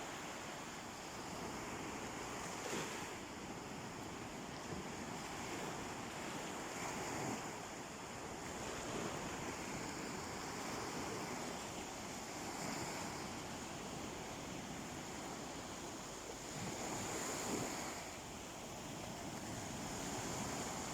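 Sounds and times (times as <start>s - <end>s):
sea waves washing onto beach: 0.0s - 20.9s.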